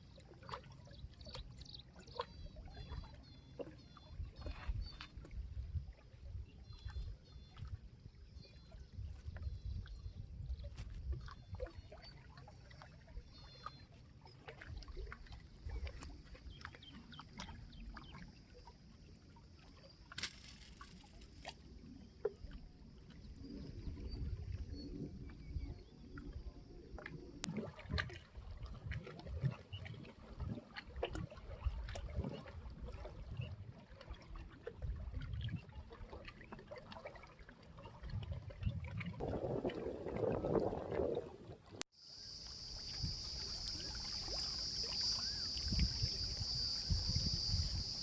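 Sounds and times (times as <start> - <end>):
water trickling and splashing: 0.0 - 48.0.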